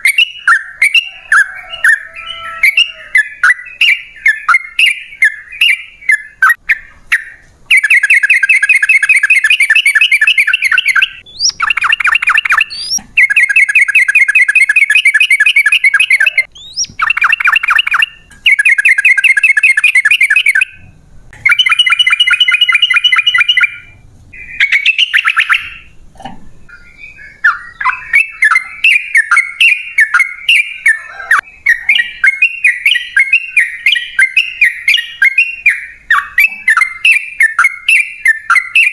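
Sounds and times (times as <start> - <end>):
bulbul singing chirps and trills: 0.0 - 26.0, 26.6 - 38.9.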